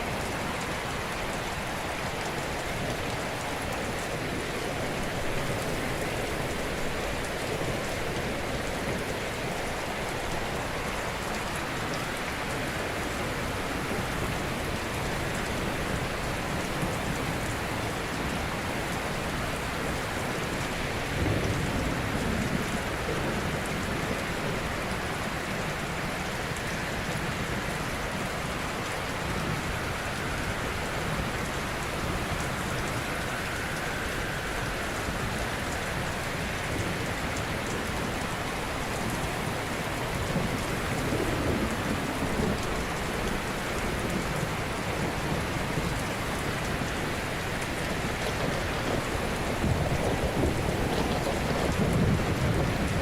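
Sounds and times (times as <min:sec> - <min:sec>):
waves washing on shore: 0:00.0 - 0:53.0.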